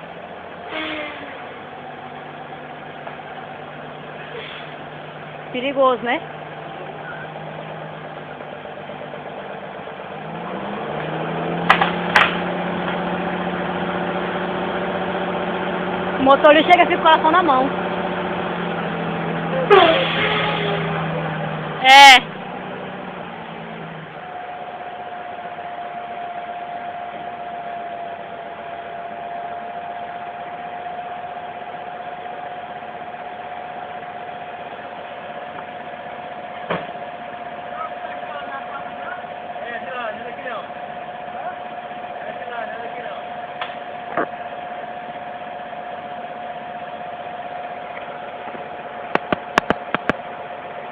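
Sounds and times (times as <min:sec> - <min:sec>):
truck engine running: 0:00.0 - 0:50.9.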